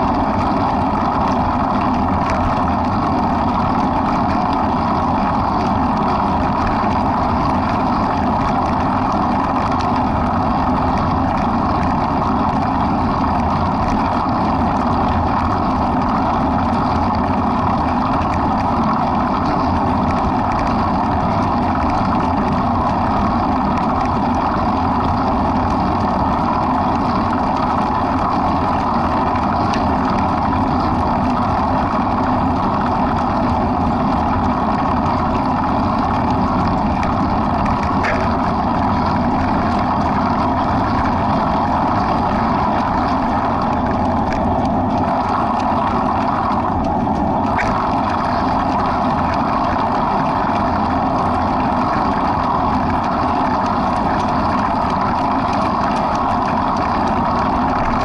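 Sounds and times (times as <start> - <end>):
vehicle engine drone: 0.0 - 58.0.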